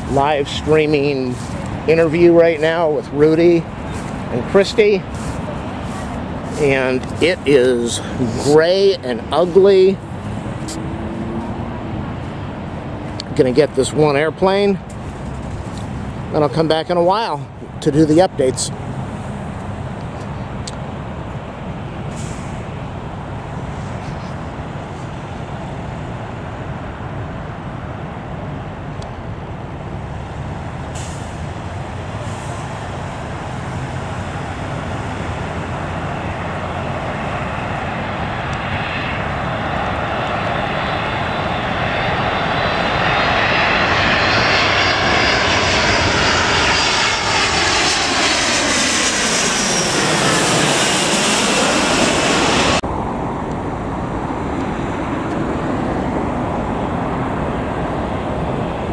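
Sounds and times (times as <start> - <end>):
jet airliner passing overhead: 0.0 - 58.9
road traffic: 0.0 - 58.9.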